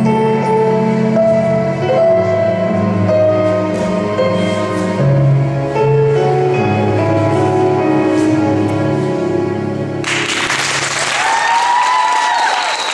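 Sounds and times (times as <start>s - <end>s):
instrumental music: 0.0s - 10.9s.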